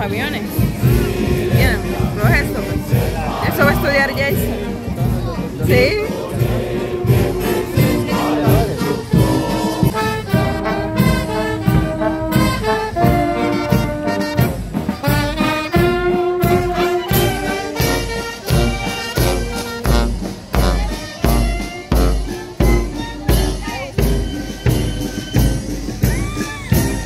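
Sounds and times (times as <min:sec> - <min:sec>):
bass drum and cymbals beat: 0:00.0 - 0:27.0
brass band playing a tune: 0:00.0 - 0:27.0.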